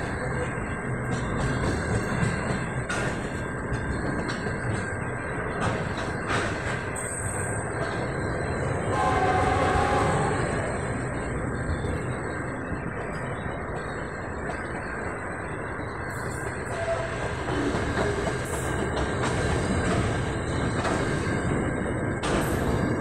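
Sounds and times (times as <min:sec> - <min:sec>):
freight train rumbling past: 0:00.0 - 0:23.0
sharp clicks from train wheels: 0:00.0 - 0:23.0.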